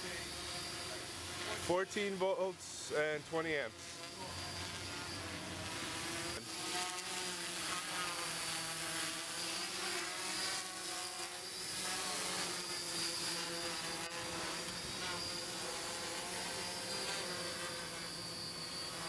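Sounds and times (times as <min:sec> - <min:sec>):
drone motors whirring: 0:00.0 - 0:02.5, 0:03.4 - 0:19.0.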